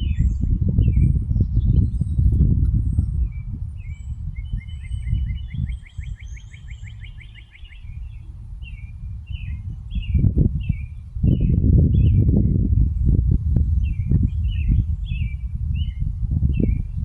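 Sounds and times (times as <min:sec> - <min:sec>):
low rumble with bumps: 0:00.0 - 0:17.0
songbirds chirping: 0:00.0 - 0:17.0.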